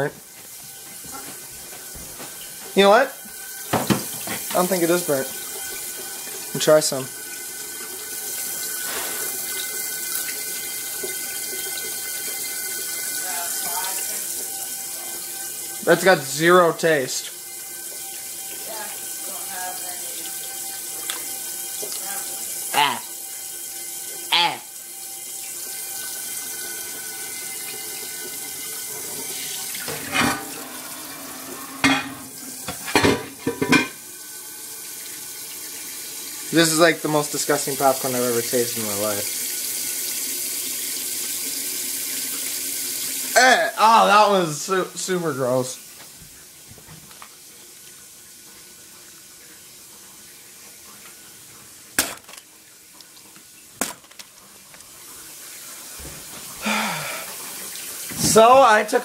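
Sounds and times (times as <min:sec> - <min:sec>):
tap water running into sink: 0:00.0 - 0:59.0.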